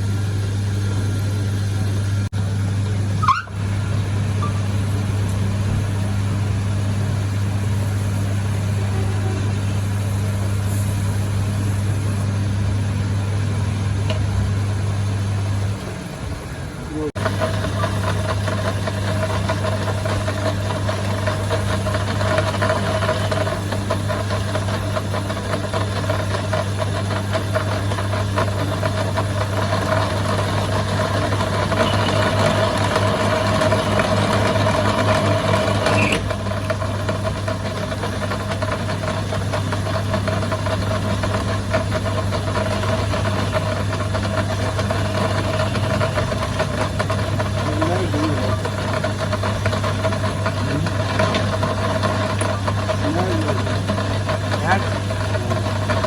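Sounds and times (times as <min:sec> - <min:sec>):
workshop machine humming: 0:00.0 - 0:56.0.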